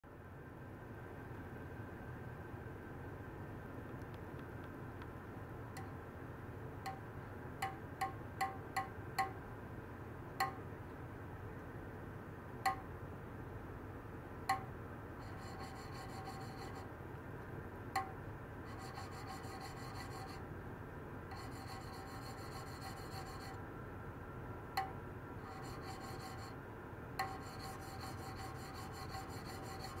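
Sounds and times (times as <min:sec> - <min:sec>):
steady low hiss: 0:00.1 - 0:30.0.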